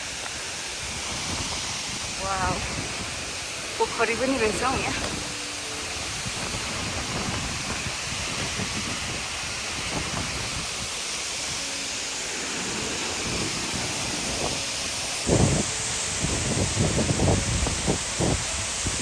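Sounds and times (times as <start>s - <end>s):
waterfall rushing hiss: 0.0s - 19.0s.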